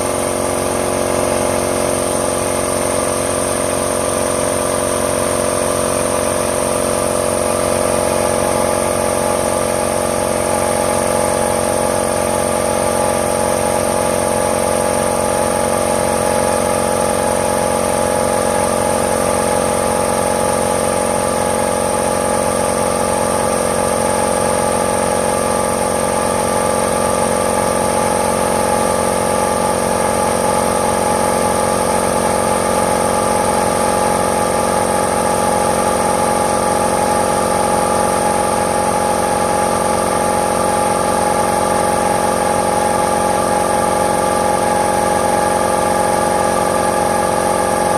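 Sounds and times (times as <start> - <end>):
air compressor running: 0.0 - 47.9.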